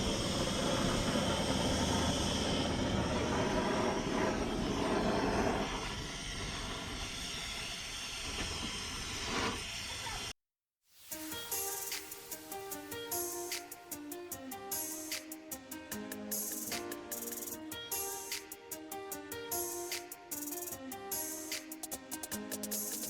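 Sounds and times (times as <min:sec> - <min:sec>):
blowtorch flame hissing: 0:00.0 - 0:10.3, 0:11.0 - 0:23.0.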